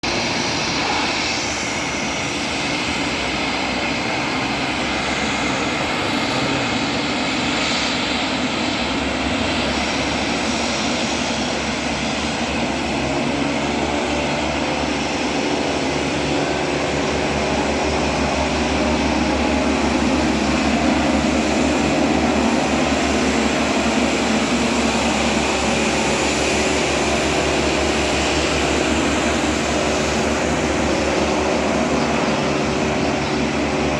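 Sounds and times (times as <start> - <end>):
small aircraft engines at high power: 0.0 - 33.9.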